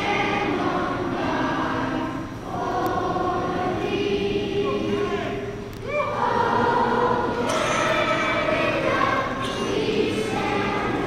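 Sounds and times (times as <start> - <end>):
crowd singing anthem: 0.0 - 11.0.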